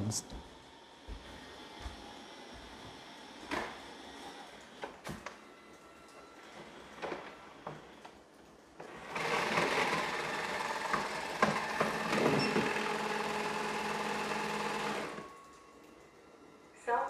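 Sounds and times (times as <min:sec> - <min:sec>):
base station mechanical running: 0:00.0 - 0:17.0.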